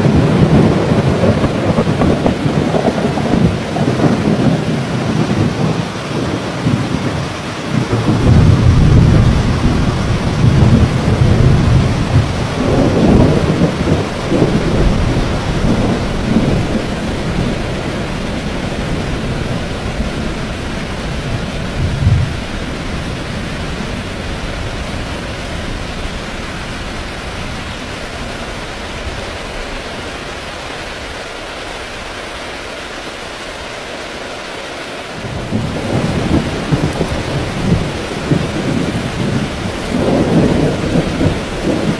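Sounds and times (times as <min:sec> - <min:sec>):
rolling thunder: 0:00.0 - 0:30.0, 0:35.2 - 0:41.9
heavy rain pouring: 0:00.0 - 0:41.9.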